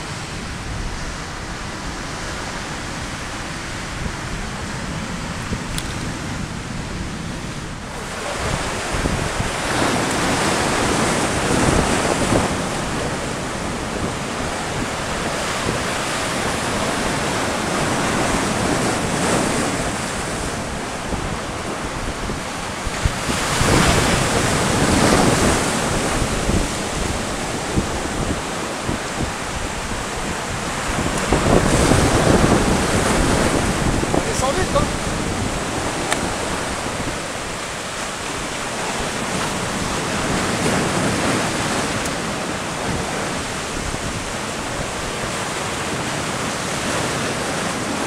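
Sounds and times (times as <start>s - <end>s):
sea surf breaking on rocks: 0.0s - 48.0s
wind buffeting microphone: 0.0s - 48.0s.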